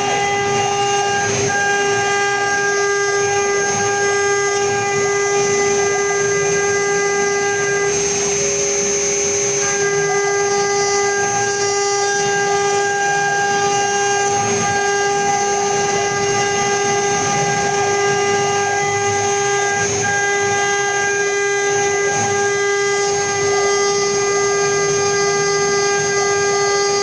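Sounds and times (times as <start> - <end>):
rough machine noise: 0.0 - 27.0
router spindles high whine: 0.0 - 27.0.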